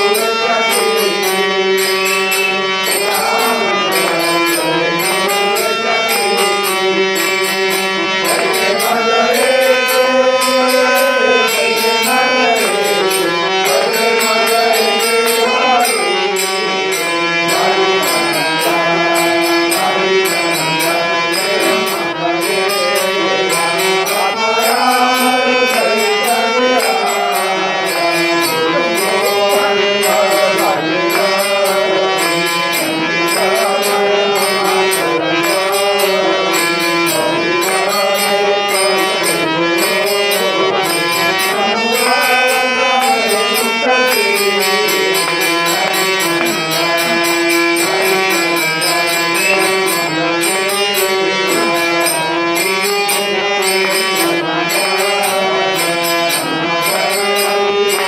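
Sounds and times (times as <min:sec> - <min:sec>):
harmonium melody: 0:00.0 - 0:58.0.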